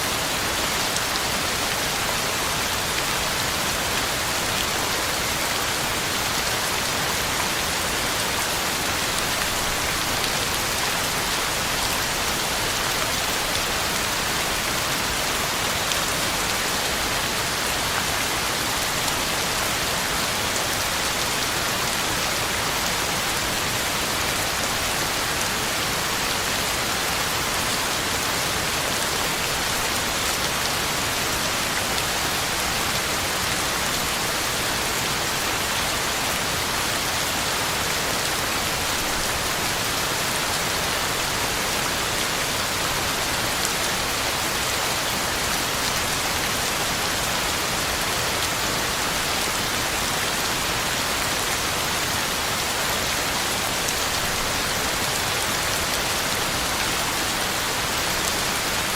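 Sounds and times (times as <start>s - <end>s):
heavy rain on ground and leaves: 0.0s - 58.9s.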